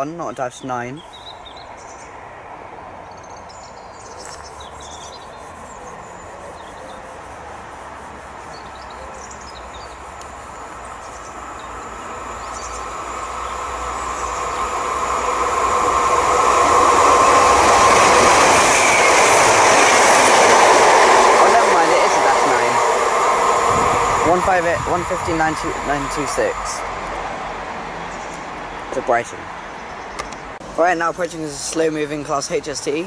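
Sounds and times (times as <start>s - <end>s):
birds chirping: 0.0s - 2.2s, 3.0s - 7.3s, 8.4s - 23.5s, 24.1s - 33.0s
diesel train approaching: 4.9s - 32.8s.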